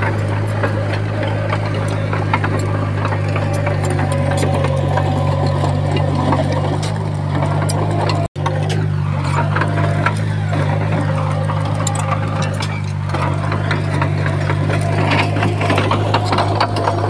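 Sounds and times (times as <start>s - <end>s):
bulldozer diesel engine running: 0.0s - 17.0s
metal clanks and knocks: 0.0s - 17.0s.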